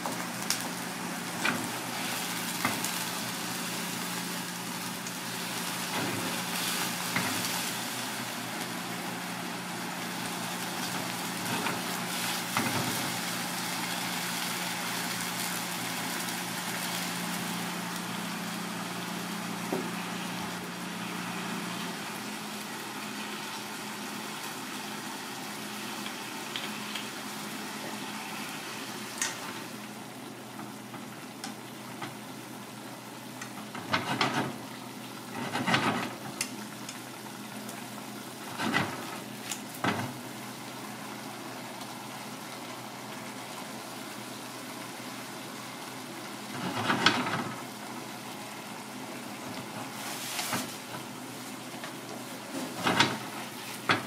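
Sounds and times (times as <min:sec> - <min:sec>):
fish frying in oil: 0:00.0 - 0:54.0.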